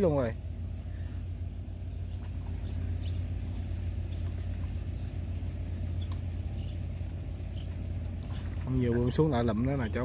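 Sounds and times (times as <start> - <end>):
small engine humming: 0.0 - 10.0.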